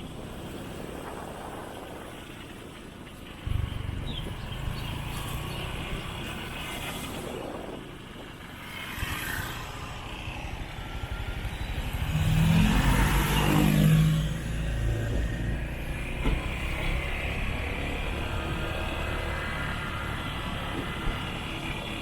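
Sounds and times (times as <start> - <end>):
motorcycle engine and road noise: 0.0 - 22.0
louder passing engine: 3.4 - 7.8, 8.6 - 22.0.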